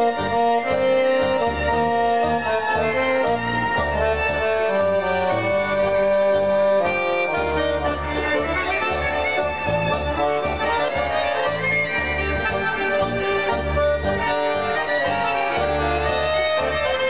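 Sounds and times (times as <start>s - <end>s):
accordion: 0.0s - 17.0s
electronic keyboard: 0.0s - 17.0s.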